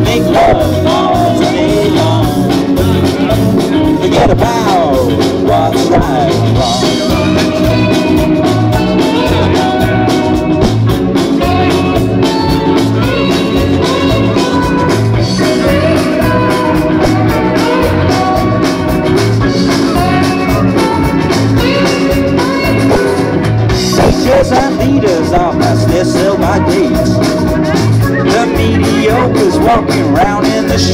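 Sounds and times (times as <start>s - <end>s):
live band playing: 0.0s - 30.9s
person singing: 0.0s - 30.9s.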